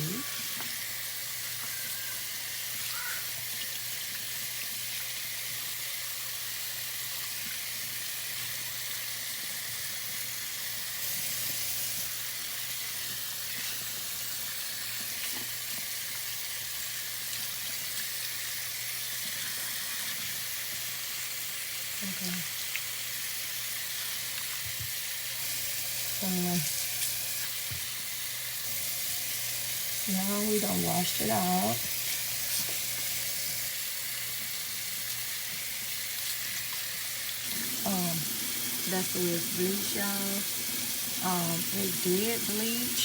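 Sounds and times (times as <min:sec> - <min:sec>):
tap water running into sink: 0:00.0 - 0:43.0.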